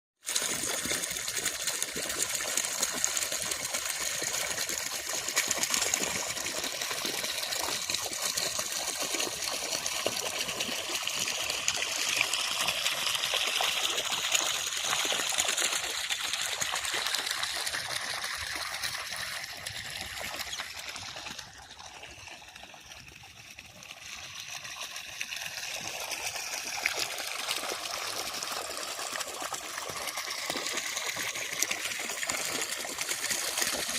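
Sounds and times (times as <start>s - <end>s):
water trickling and gushing: 0.2s - 33.9s.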